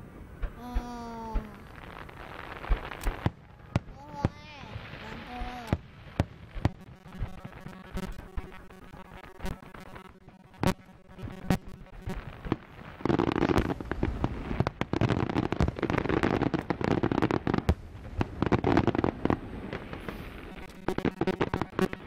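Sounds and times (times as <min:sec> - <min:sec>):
fireworks bangs and crackle: 0:00.0 - 0:22.0.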